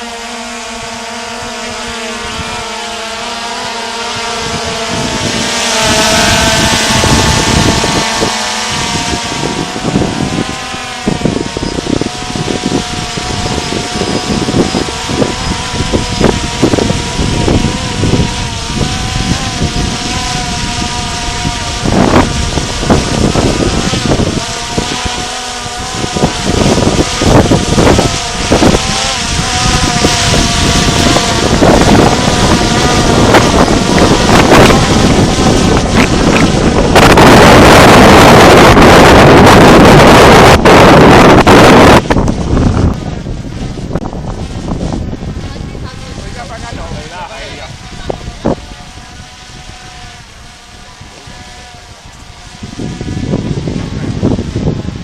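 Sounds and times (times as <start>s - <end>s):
drone propellers whining: 0.0s - 55.0s
wind buffeting microphone: 0.0s - 55.0s.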